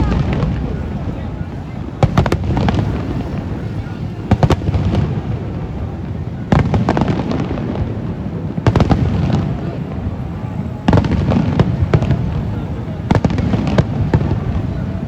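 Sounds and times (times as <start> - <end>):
fireworks bursts: 0.0 - 15.0
fireworks crackling: 0.0 - 15.0.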